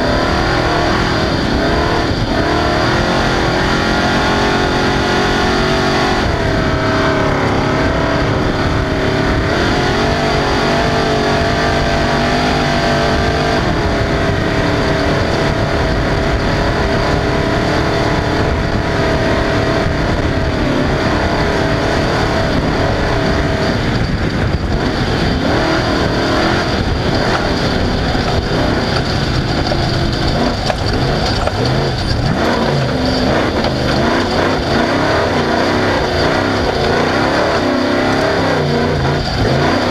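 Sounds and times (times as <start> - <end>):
race vehicle engine revving: 0.0 - 39.9
rattling and ground noise: 0.0 - 39.9.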